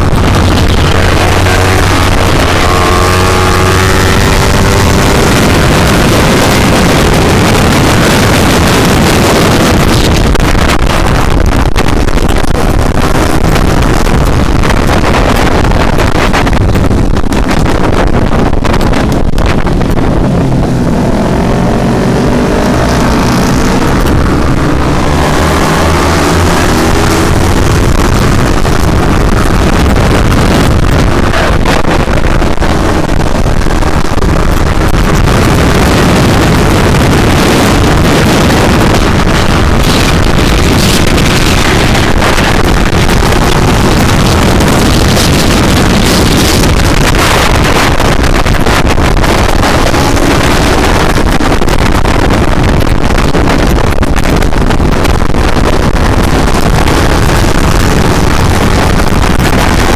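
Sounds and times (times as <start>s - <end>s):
motorcycle engine revving: 0.0s - 52.8s
wind buffeting on microphone: 0.0s - 59.9s.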